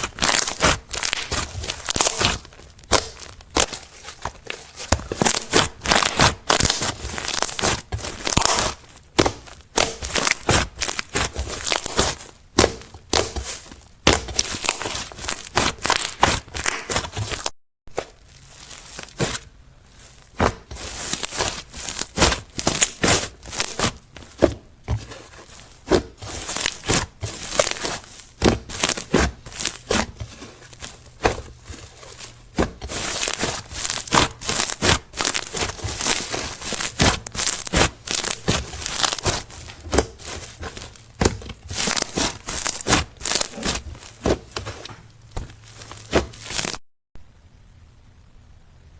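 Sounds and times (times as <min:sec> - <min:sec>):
slime squished by hand: 0:00.0 - 0:46.8.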